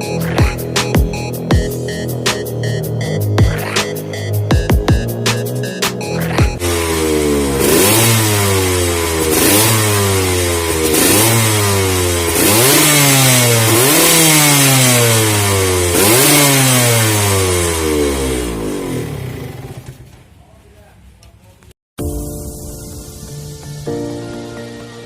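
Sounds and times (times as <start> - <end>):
motorcycle engine revving: 0.0 - 20.2.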